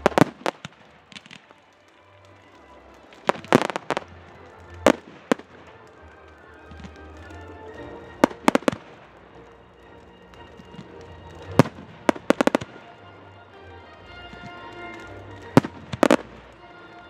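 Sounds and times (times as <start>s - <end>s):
firework shells bursting: 0.0s - 17.0s.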